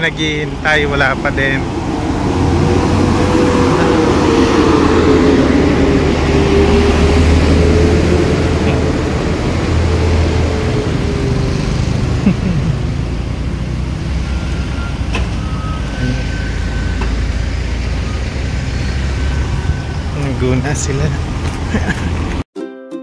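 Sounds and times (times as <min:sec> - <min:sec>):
vehicle engines running: 0:00.0 - 0:22.4.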